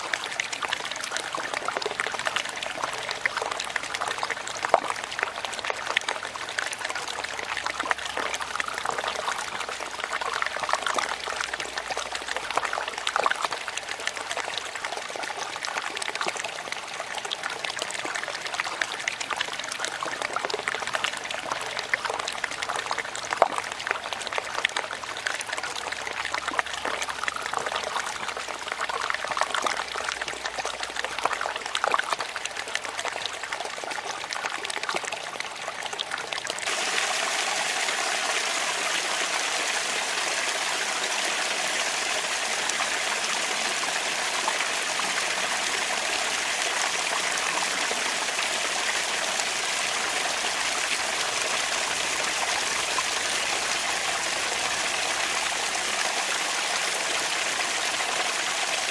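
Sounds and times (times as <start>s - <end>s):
rush of running water: 0.0s - 58.9s
water trickling and splashing: 0.0s - 58.9s.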